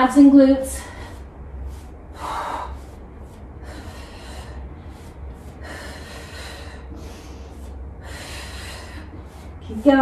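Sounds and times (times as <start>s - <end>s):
woman breathing hard: 0.7s - 9.7s.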